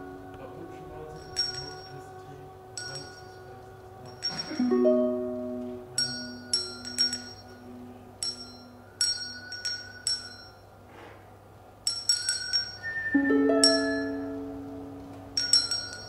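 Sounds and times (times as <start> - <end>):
low held chord: 0.0 - 10.7, 12.4 - 16.0
bell-like percussion pings: 1.0 - 2.2, 2.8 - 10.7, 11.9 - 16.0.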